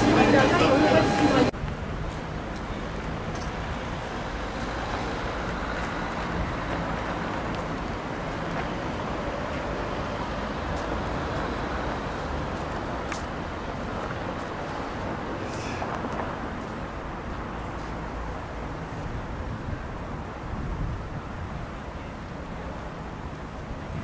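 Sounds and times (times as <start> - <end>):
cars passing on street: 0.0 - 24.0.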